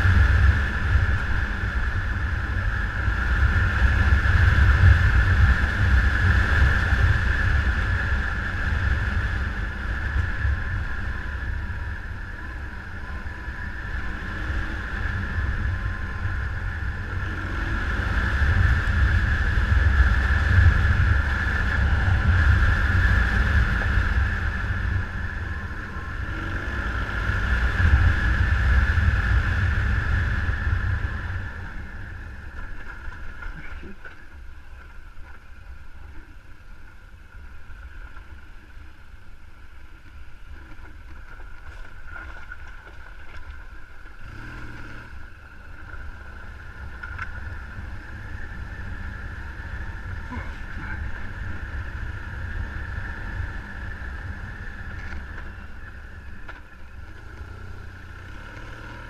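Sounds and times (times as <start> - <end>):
heavy engine rumbling: 0.0 - 59.0
high whine: 0.0 - 59.0.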